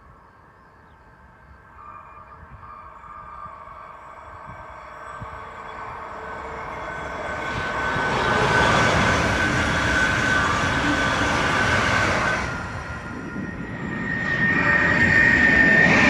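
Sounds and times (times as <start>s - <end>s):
steady high whine: 0.0s - 16.0s
high-speed train rushing past: 1.3s - 16.0s.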